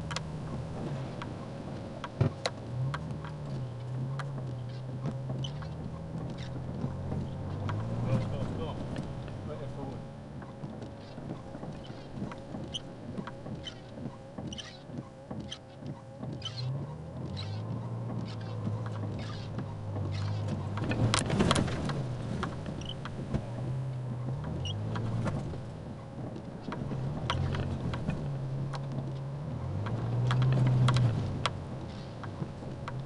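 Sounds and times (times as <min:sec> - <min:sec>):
body knocks and rattles: 0:00.0 - 0:33.0
car engine from inside cabin: 0:00.0 - 0:33.0.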